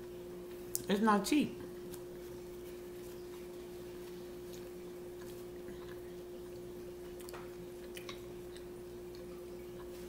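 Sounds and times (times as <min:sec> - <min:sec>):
steady hum: 0:00.0 - 0:10.0
crunchy chewing: 0:01.7 - 0:10.0.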